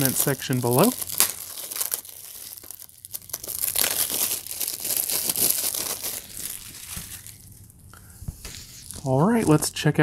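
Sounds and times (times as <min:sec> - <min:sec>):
plastic wrap crinkling and tearing: 0:00.0 - 0:09.7.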